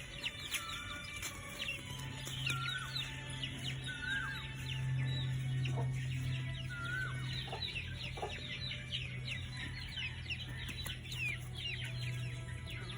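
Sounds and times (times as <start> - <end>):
chickens clucking: 0.0 - 12.9
chicks peeping: 0.0 - 12.9.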